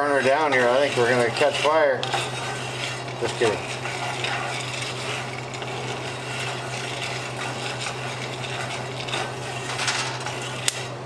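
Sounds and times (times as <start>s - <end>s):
coffee beans scraping in skillet: 0.0s - 11.0s
fan humming: 0.0s - 11.0s.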